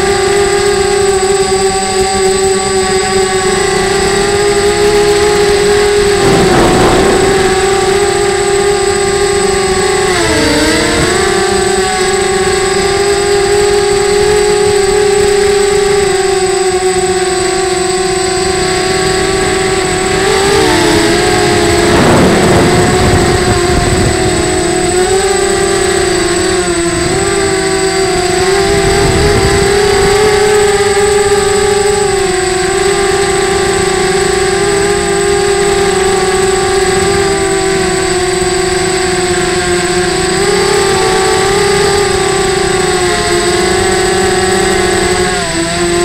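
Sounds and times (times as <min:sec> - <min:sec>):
quadcopter propellers whining: 0:00.0 - 0:46.0
wind noise: 0:00.0 - 0:46.0.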